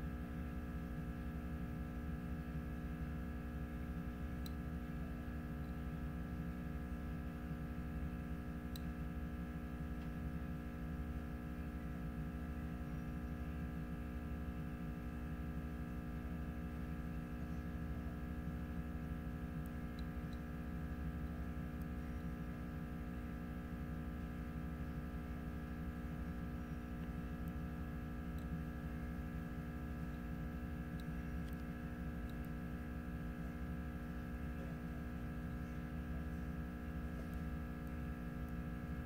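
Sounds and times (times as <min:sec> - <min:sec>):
machine hum with low rumble: 0:00.0 - 0:39.0.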